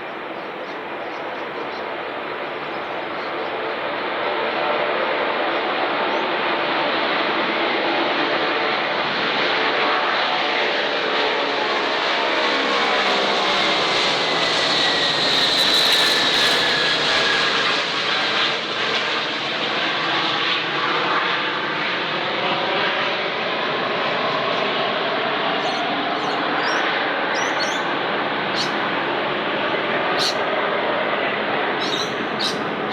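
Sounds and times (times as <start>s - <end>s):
jet aircraft passing: 0.0s - 32.9s.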